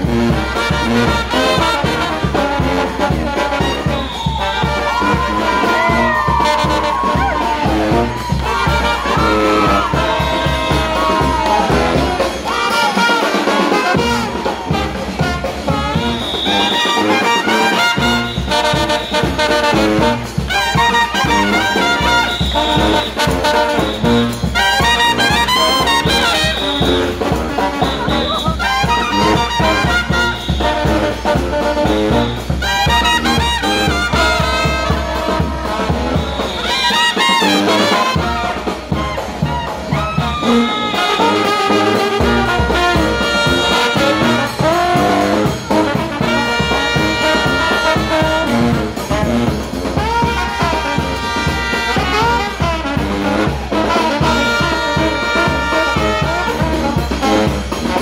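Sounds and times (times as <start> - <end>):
brass band playing jazz: 0.0 - 58.0.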